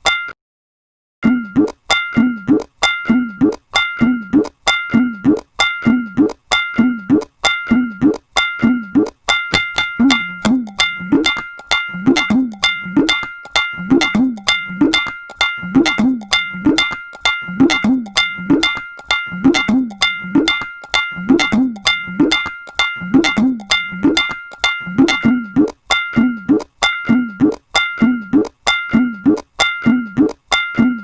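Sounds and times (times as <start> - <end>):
treble drum ringing: 1.3 - 31.0.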